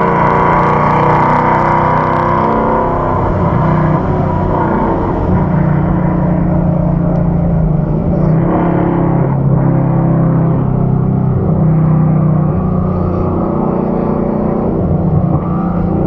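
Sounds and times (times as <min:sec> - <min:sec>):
car engine cruising from inside: 0:00.0 - 0:16.0.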